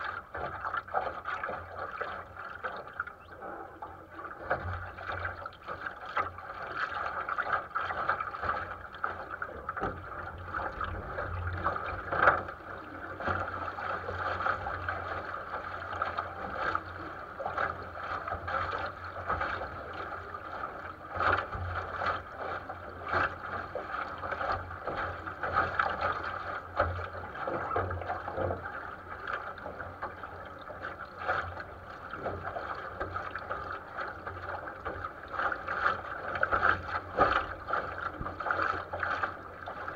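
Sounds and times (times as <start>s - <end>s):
water rushing along a hull: 0.0s - 39.9s
water slapping against boat: 0.0s - 39.9s
wind: 0.0s - 39.9s.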